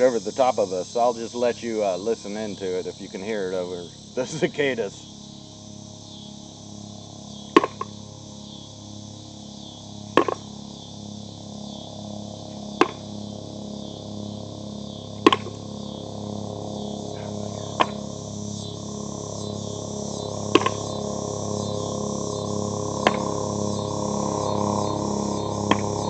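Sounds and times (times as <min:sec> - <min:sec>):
cicadas buzzing: 0:00.0 - 0:26.0
helicopter drone: 0:00.0 - 0:26.0.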